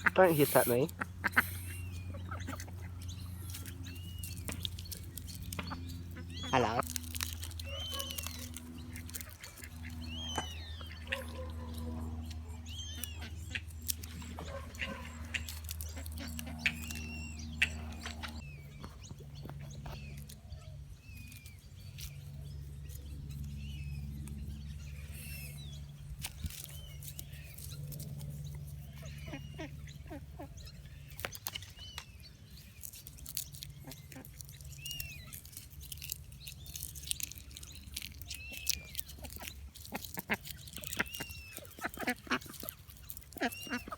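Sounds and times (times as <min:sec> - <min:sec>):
birds chirping: 0:00.0 - 0:43.9
steady low hum: 0:00.0 - 0:43.9.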